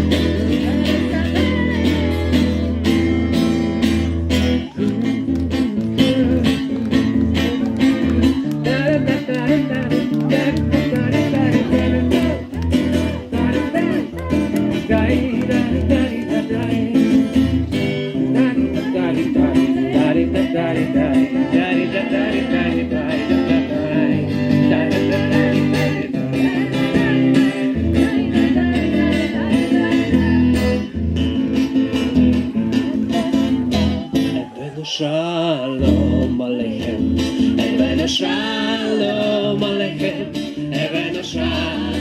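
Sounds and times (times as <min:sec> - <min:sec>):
acoustic guitar strumming: 0:00.0 - 0:42.0
people singing: 0:05.8 - 0:31.0, 0:31.6 - 0:42.0.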